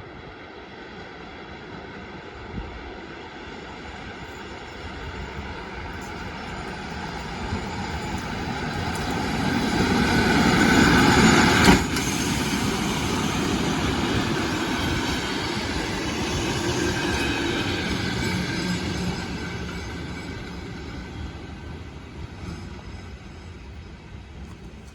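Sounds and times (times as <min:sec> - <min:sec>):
train wheels rumbling on rails: 0:00.6 - 0:24.9.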